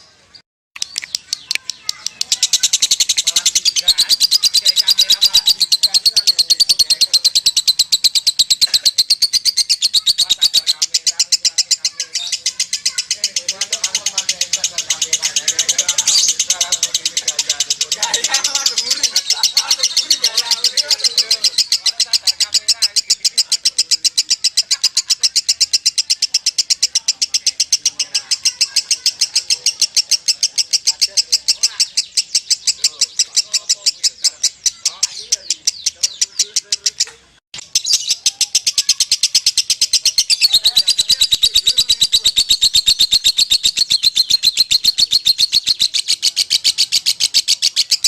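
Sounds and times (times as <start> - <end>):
lovebird chattering: 0.3 - 48.0.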